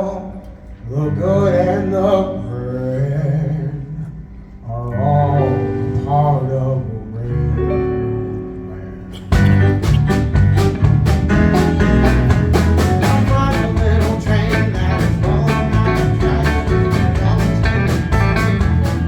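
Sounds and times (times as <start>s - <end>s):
man singing with vibrato: 0.0s - 7.8s, 11.3s - 19.0s
country backing music: 0.0s - 19.0s.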